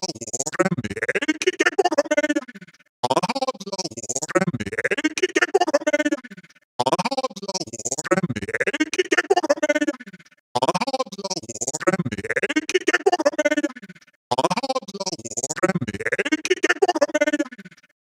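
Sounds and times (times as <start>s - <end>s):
synthesized robotic voice stuttering: 0.0s - 18.0s.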